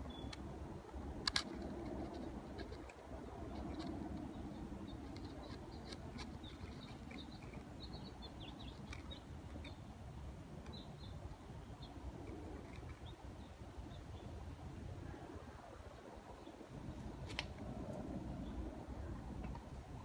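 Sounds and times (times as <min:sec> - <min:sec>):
small birds chirping: 0:00.0 - 0:00.5, 0:01.5 - 0:19.6.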